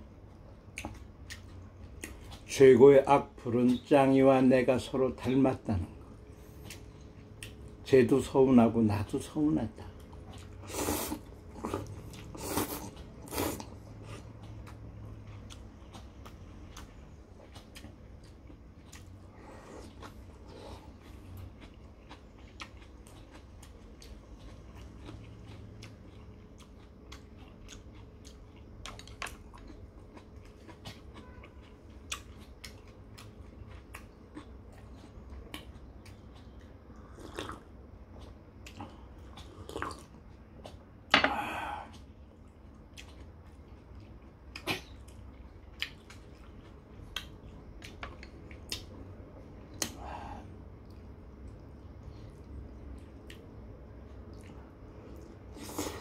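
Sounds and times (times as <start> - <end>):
man chewing noodle soup: 0.2 - 2.6, 9.4 - 40.9, 41.5 - 56.0.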